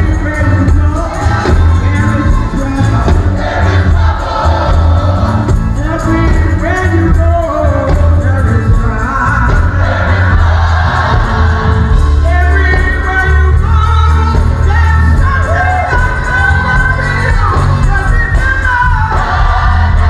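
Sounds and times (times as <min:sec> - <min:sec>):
backing singers: 0:00.0 - 0:07.2, 0:07.9 - 0:20.0
amplified band with heavy bass: 0:00.0 - 0:20.0.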